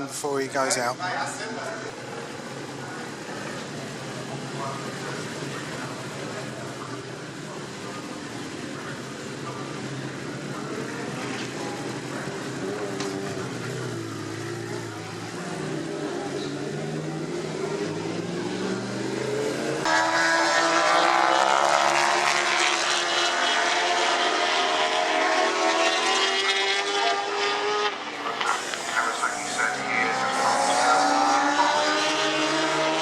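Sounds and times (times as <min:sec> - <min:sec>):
racing motorcycle engines revving: 0:00.0 - 0:33.0
engine at high revs: 0:01.9 - 0:33.0.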